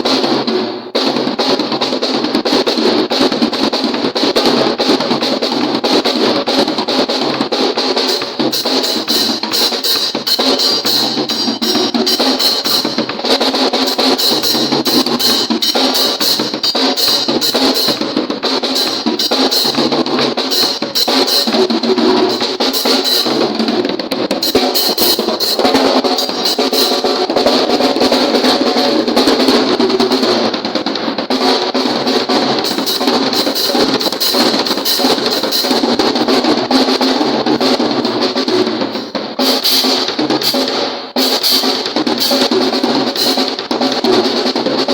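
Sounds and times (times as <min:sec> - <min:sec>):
drum kit playing rapidly: 0:00.0 - 0:44.9.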